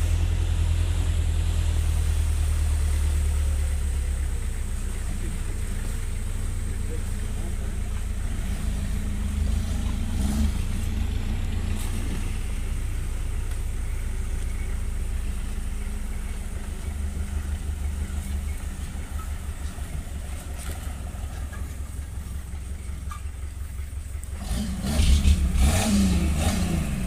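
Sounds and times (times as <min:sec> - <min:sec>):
engine running low rumble: 0:00.0 - 0:27.0.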